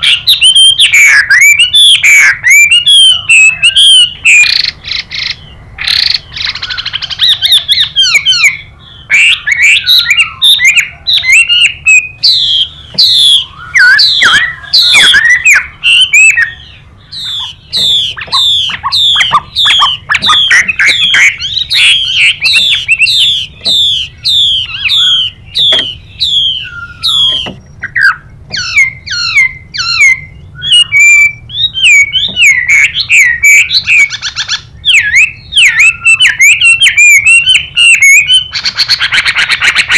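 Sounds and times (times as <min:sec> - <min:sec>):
bird whistled song: 0:00.0 - 0:39.9
harsh hissing bird calls: 0:01.1 - 0:36.7.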